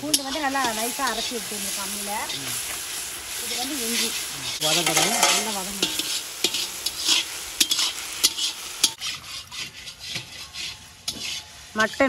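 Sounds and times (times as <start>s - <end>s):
metal ladle scraping a pan: 0.0s - 12.0s
vegetables sizzling in oil: 0.0s - 12.0s.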